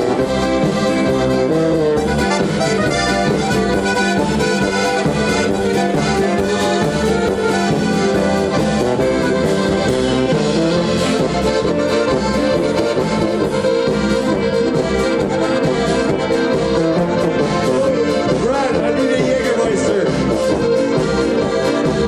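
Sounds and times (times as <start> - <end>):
drums with steady beat: 0.0 - 22.0
guitar: 0.0 - 22.0
live band with accordions: 0.0 - 22.0.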